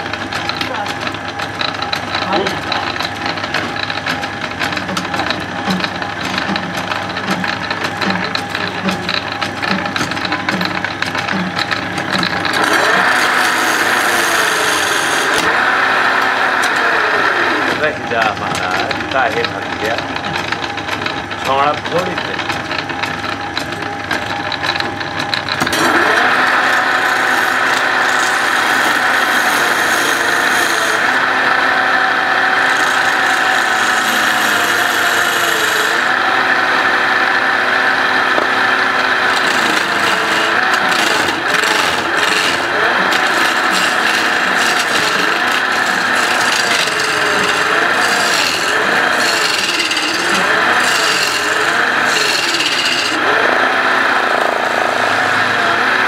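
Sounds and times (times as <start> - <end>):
chisel scraping wood on lathe: 0.0 - 56.0
wood lathe spinning: 0.0 - 56.0.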